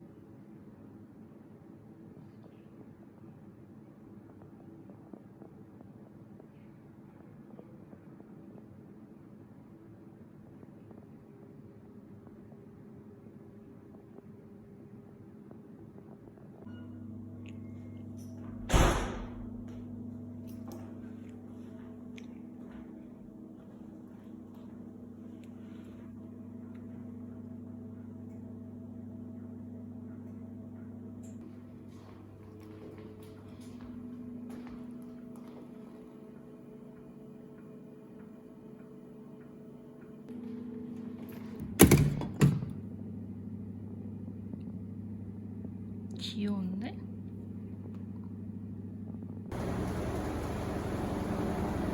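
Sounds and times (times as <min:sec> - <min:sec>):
low electrical hum: 0:00.0 - 0:51.9.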